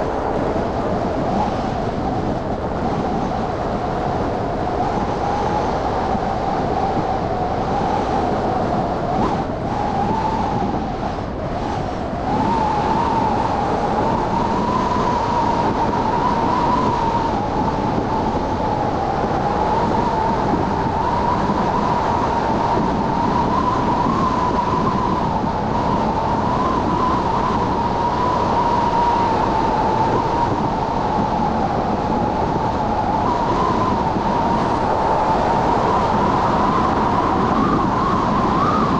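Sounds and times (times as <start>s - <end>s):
car road and tyre noise: 0.0s - 38.9s
wavering whine: 0.0s - 38.9s.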